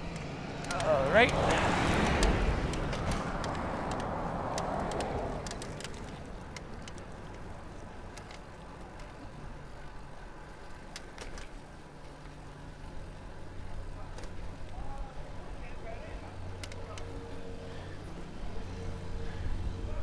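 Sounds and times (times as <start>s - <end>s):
bicycle tyre and road noise: 0.0s - 20.0s
bike clicks and rattles: 0.0s - 20.0s.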